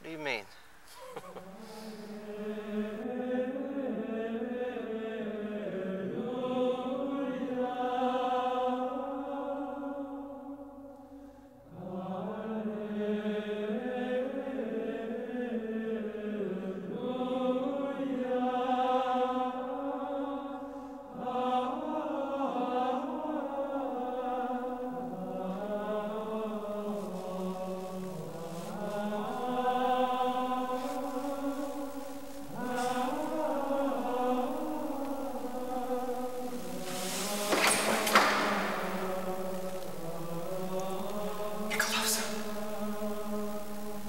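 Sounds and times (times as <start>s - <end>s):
chanted vocal music: 0.0s - 44.0s.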